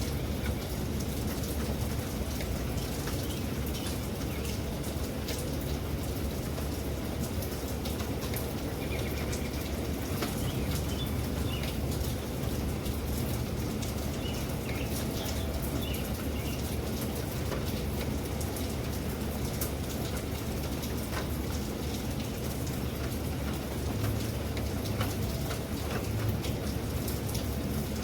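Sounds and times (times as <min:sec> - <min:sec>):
raindrops ticking: 0:00.0 - 0:28.0
steady rain hiss: 0:00.0 - 0:28.0.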